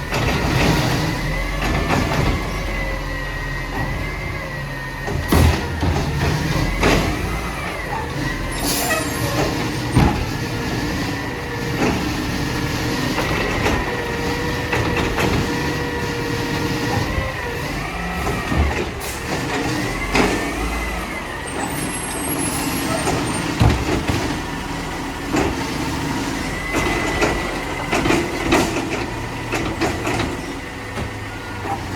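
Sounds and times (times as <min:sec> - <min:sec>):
truck hydraulics whine: 0:00.0 - 0:31.9.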